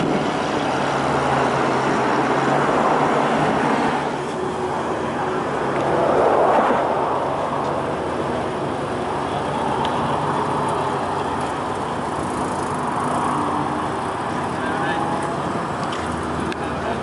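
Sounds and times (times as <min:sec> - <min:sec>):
car engines running: 0:00.0 - 0:17.0
traffic noise: 0:00.0 - 0:17.0.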